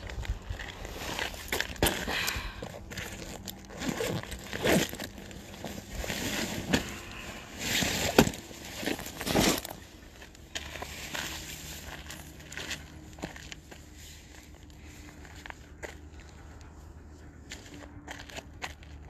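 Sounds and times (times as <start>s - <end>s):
fabric and backpack rustling: 2.6s - 18.4s.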